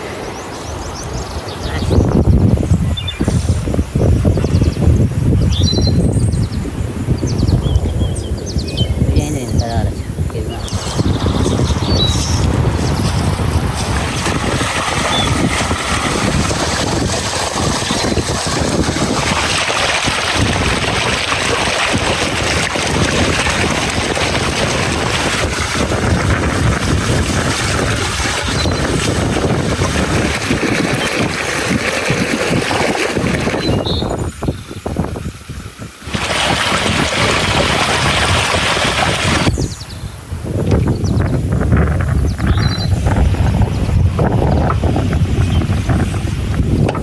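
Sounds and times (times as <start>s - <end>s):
gusting wind buffeting microphone: 0.0s - 47.0s.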